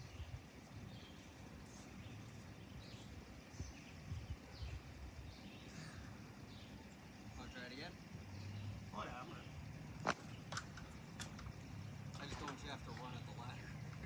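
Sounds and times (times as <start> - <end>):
bird chirps: 0.0 - 14.0
low outdoor rumble: 0.0 - 14.0.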